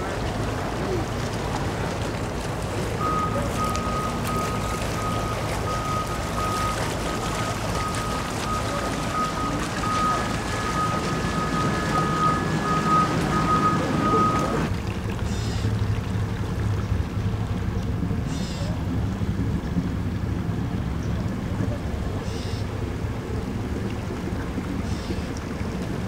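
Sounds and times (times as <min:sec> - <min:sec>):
boat engines idling: 0:00.0 - 0:26.0
water noise: 0:00.0 - 0:26.0
wind: 0:00.0 - 0:26.0.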